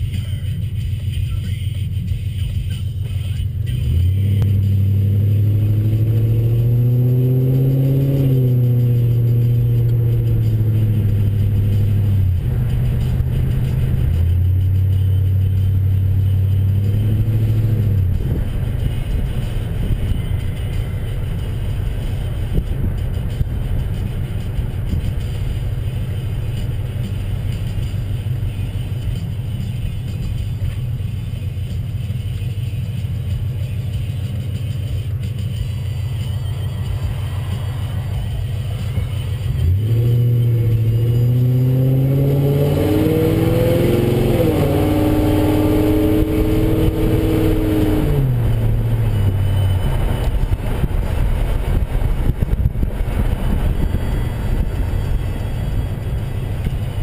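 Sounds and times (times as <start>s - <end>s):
car exhaust drone from inside cabin: 0.0s - 57.0s.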